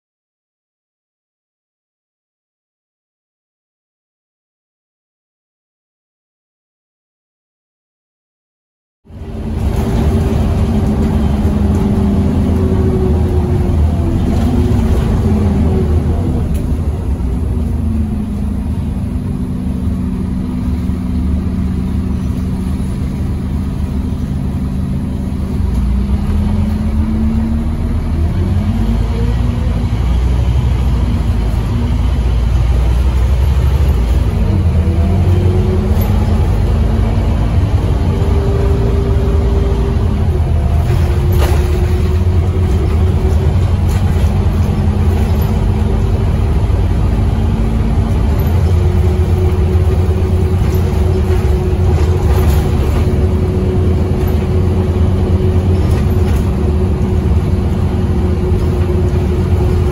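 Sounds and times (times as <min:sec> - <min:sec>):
bus engine rumble: 0:09.1 - 0:59.9.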